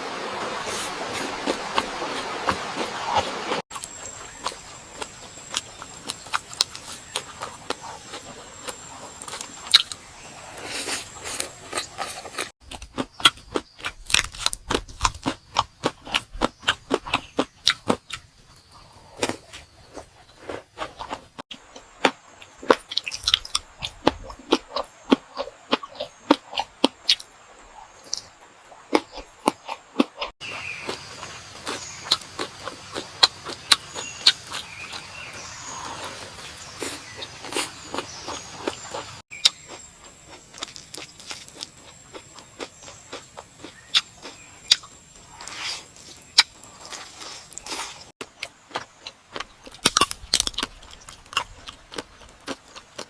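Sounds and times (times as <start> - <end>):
chewing crispy food: 1.2 - 18.3, 19.0 - 53.0.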